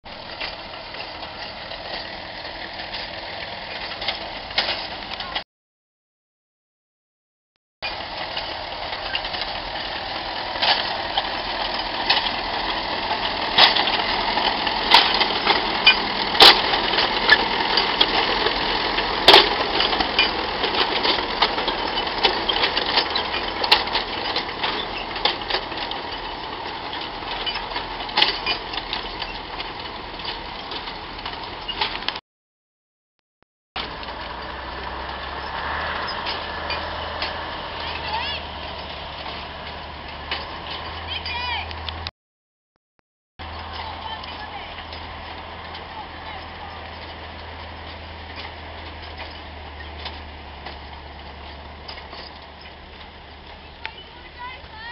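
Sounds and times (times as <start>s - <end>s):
tractor engine running: 0.0s - 5.4s, 7.8s - 32.2s, 33.8s - 42.1s, 43.4s - 54.9s
sharp metallic clanks and knocks: 7.8s - 32.2s, 33.8s - 42.1s, 43.4s - 54.9s.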